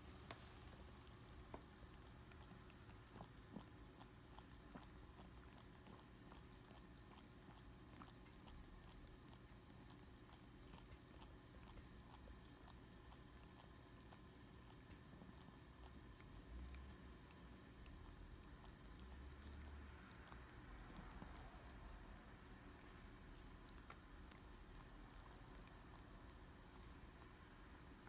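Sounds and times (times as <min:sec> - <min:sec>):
low room hum: 0:00.0 - 0:28.0
puppies suckling clicks: 0:00.2 - 0:28.0.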